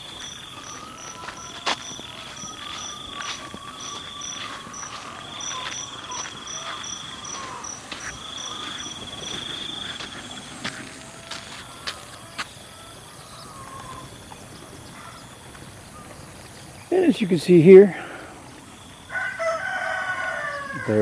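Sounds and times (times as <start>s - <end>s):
cricket chirping: 0.0s - 21.0s
cricket trilling: 0.0s - 21.0s.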